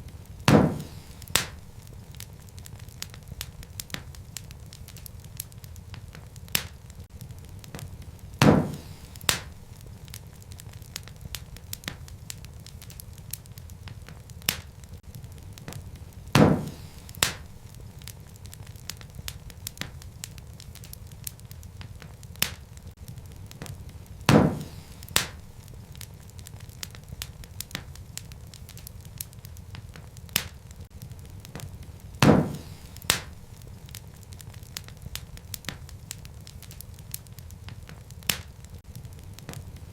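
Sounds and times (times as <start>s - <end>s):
loud sharp fire pops: 0.0s - 39.9s
wood fire crackling: 0.0s - 39.9s.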